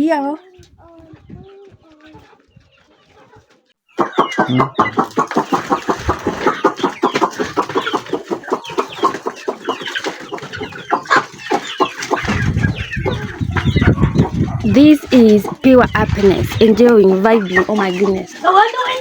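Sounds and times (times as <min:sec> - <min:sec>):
chickens clucking: 0:00.2 - 0:19.0.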